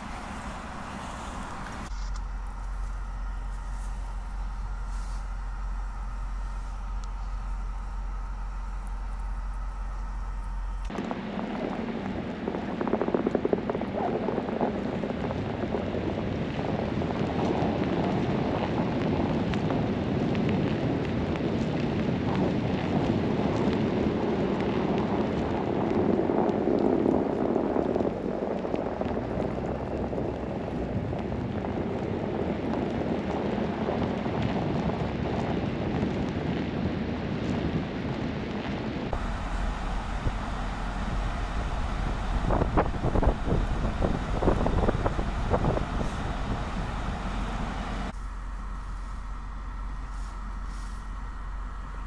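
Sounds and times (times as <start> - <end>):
wind and snow hitting microphone: 0.0 - 52.0.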